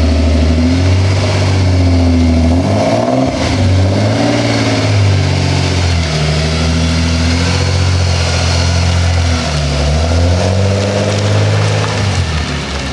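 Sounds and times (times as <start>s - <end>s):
car engine and exhaust running: 0.0s - 12.9s.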